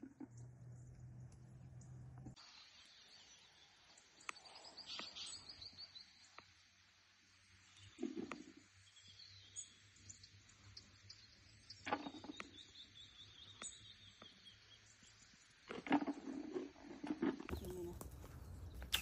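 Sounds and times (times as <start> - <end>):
small birds chirping: 0.0 - 16.4, 17.5 - 19.0.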